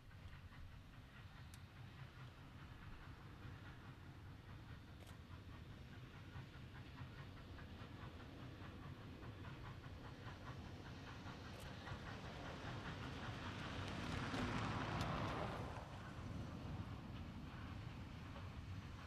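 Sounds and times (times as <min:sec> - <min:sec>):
steam locomotive exhaust beats: 0:00.0 - 0:19.0.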